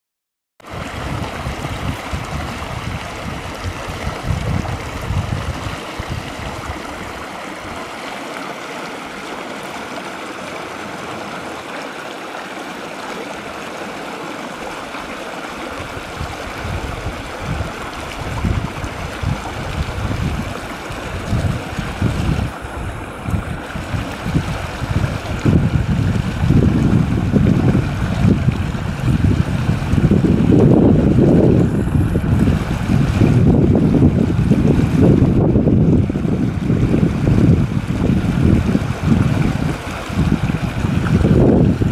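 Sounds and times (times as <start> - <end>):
river water rushing over rock: 0.6 - 41.9
wind buffeting microphone: 0.7 - 8.2, 15.8 - 41.9.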